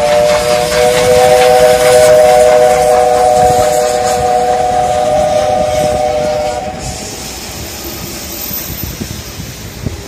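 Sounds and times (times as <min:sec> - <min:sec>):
steam locomotive whistle: 0:00.0 - 0:09.5
passing train hiss and rumble: 0:00.0 - 0:10.0.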